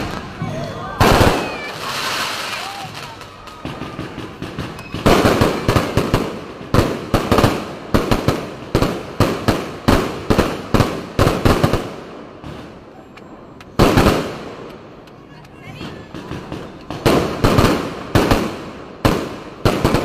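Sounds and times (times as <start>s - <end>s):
fireworks bangs with echo: 0.0s - 12.9s, 13.7s - 20.0s.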